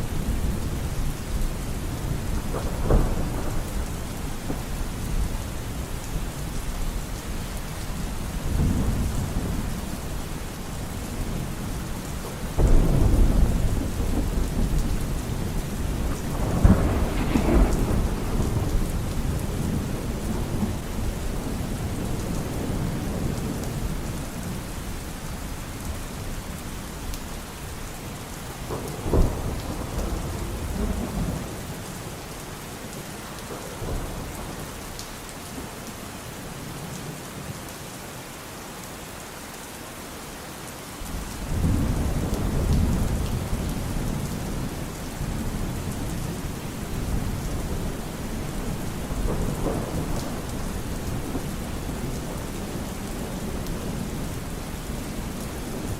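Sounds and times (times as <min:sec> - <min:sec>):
steady rain falling: 0:00.0 - 0:55.9
thunder rumbling and cracking: 0:00.1 - 0:26.8, 0:27.5 - 0:32.2, 0:41.0 - 0:55.9.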